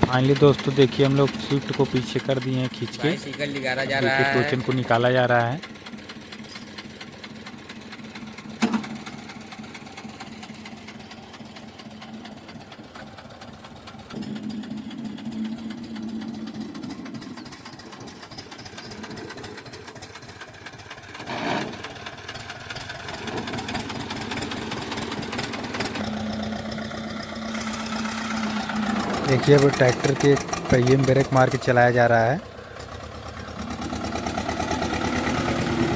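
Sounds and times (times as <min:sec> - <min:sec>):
tractor diesel engine idling: 0:00.0 - 0:35.9.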